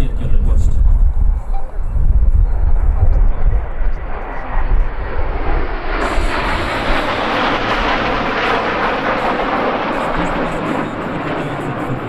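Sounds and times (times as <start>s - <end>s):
jet roar: 0.1s - 12.0s.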